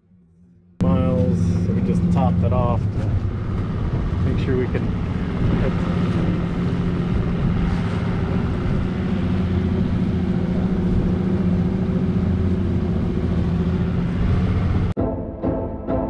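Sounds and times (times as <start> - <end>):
outboard motor running: 0.8 - 14.9
rushing water and wind: 1.7 - 15.0.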